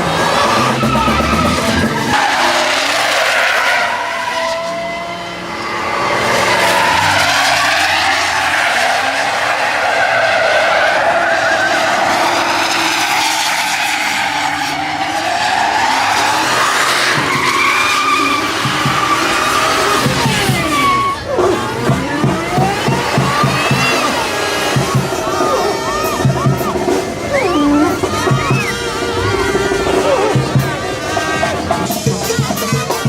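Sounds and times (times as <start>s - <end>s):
truck engine revving: 0.0s - 33.0s
tyres squealing: 0.0s - 33.0s.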